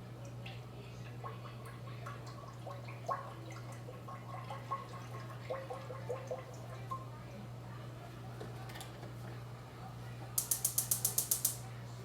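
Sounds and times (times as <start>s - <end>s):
liquid bubbling in a pot: 0.0s - 11.8s.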